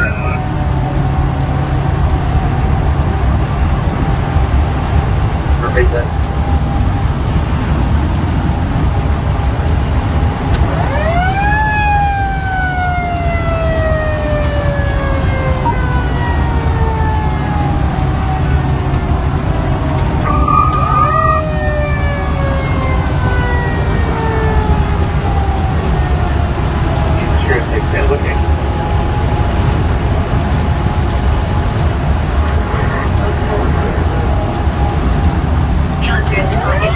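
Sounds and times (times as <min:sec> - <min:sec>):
engine and road rumble: 0:00.0 - 0:36.9.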